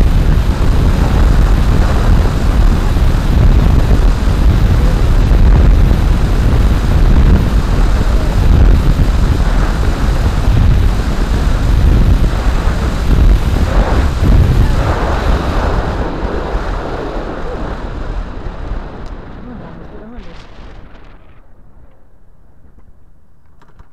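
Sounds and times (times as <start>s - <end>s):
road and tyre rumble: 0.0s - 21.4s
wind buffeting microphone: 0.0s - 23.2s.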